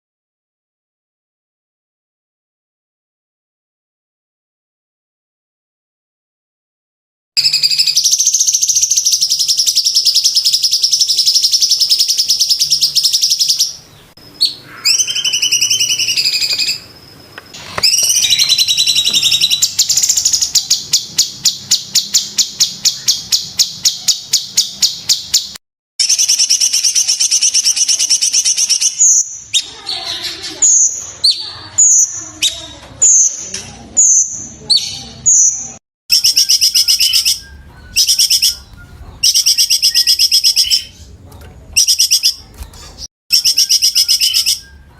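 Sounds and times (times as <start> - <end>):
bird singing trills and calls: 7.4 - 44.9.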